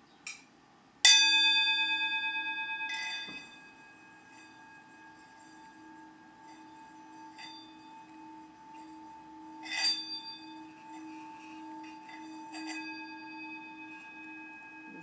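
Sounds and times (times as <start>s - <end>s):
singing bowl ringing: 1.0s - 15.0s.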